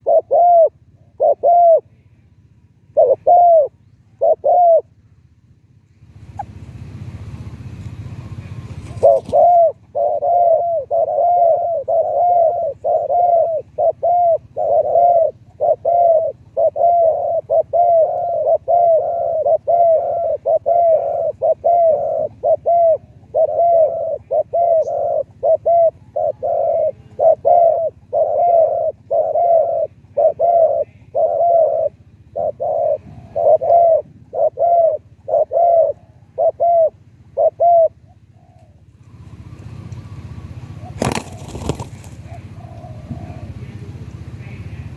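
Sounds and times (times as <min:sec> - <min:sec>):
dove cooing: 0:00.0 - 0:02.0, 0:02.9 - 0:04.9, 0:08.2 - 0:44.9.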